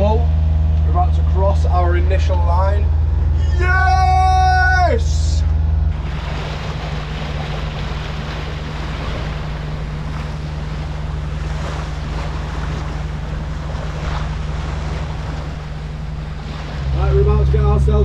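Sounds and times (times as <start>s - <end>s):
steady low hum: 0.0s - 18.0s
wind buffeting microphone: 2.0s - 18.0s
sea rushing and splashing: 2.2s - 18.0s.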